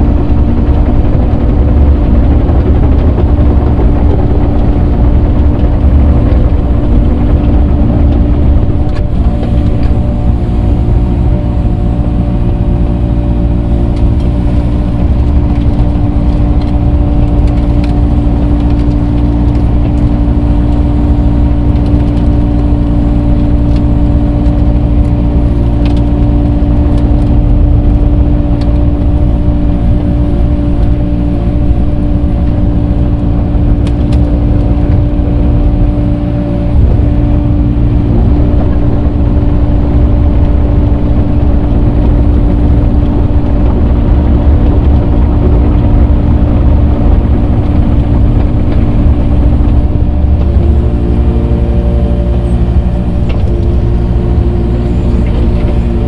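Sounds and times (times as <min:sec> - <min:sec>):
earthmoving machine engine droning: 0:00.0 - 0:56.0.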